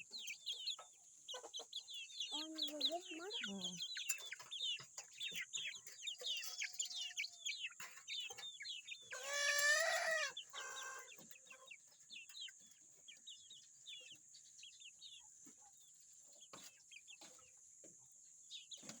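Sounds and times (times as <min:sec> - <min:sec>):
chickens peeping and clucking: 0:00.0 - 0:19.0.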